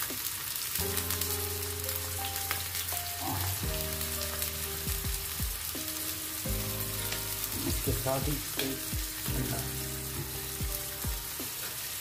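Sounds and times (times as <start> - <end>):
food sizzling in a pan: 0.0 - 12.0
background music of held notes: 0.8 - 12.0.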